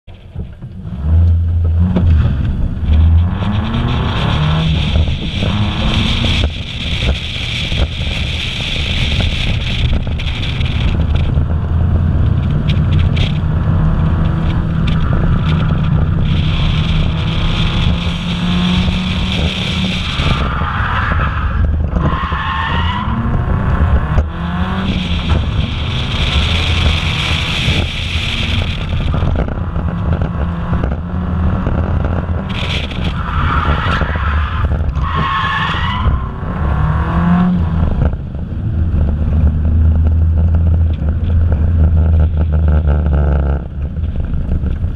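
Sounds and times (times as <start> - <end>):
car engine revving: 0.2 - 44.9.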